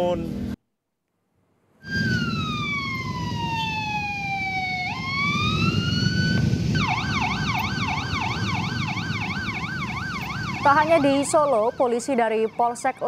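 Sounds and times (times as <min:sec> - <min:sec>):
police siren wailing and yelping: 0:01.8 - 0:13.0
traffic noise: 0:01.8 - 0:13.0.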